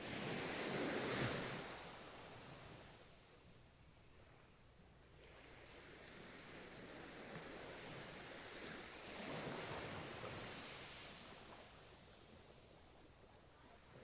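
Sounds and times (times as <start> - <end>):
ocean waves washing ashore: 0.0 - 3.3, 5.1 - 14.0.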